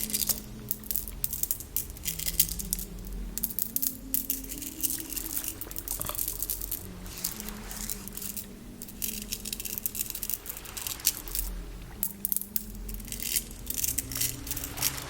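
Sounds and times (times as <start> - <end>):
squishy crackling water: 0.0 - 15.0
woman humming: 2.0 - 15.0.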